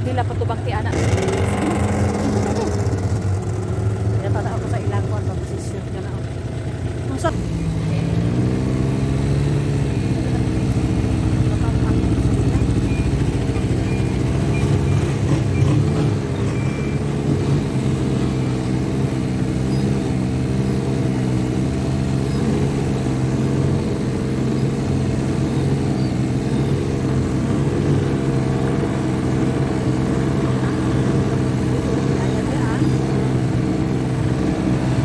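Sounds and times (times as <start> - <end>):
snowmobile engine running: 0.0 - 35.0.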